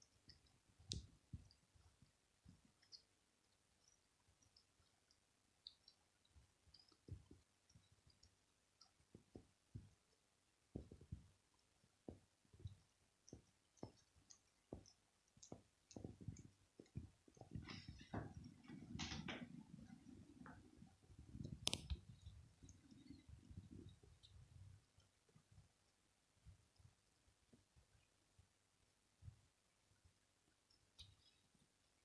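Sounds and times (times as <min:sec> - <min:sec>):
cat licking fur: 0:00.0 - 0:32.0.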